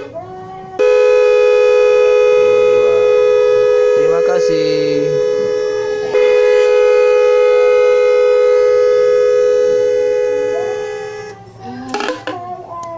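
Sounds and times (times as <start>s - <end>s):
multi-tone bus horn chord: 0.0s - 0.2s, 0.8s - 11.6s.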